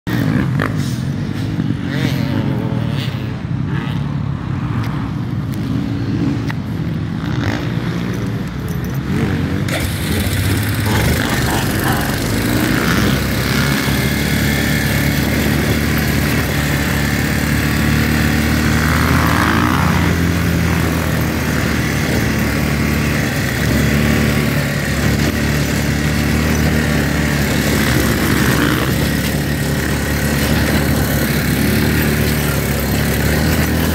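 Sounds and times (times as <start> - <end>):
wind and trail noise: 0.1 - 33.9
atv engine running: 5.7 - 33.9.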